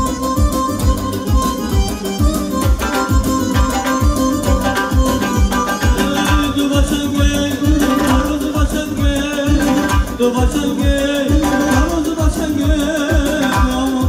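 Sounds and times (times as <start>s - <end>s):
live band with singing: 0.0s - 14.0s
steady drum beat: 0.0s - 14.0s.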